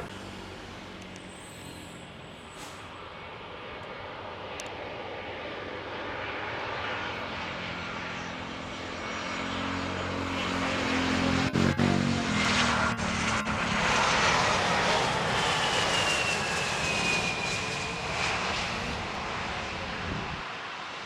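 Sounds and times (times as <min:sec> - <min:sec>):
jet airliner engine noise: 0:00.0 - 0:21.0.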